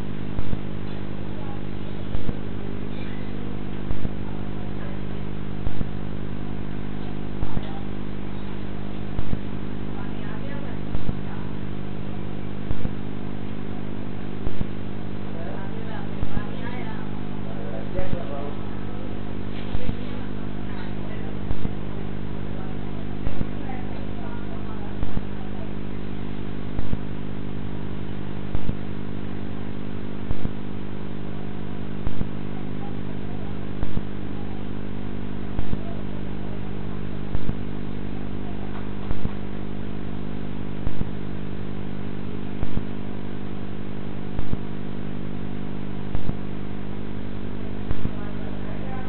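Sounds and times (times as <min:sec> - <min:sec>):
steady layered hum: 0:00.0 - 0:49.0.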